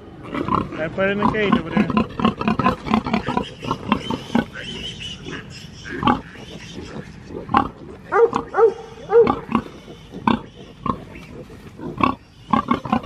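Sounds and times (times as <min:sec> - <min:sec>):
pig grunts: 0:00.2 - 0:13.0.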